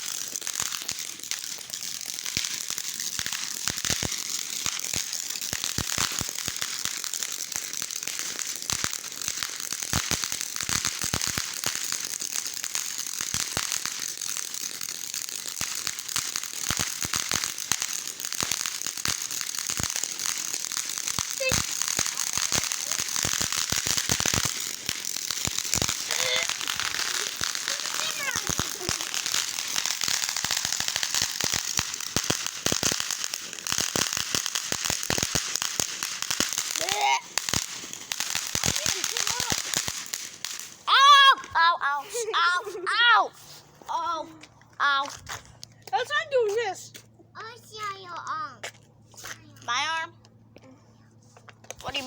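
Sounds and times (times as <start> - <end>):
fire crackling and popping: 0.0 - 52.0.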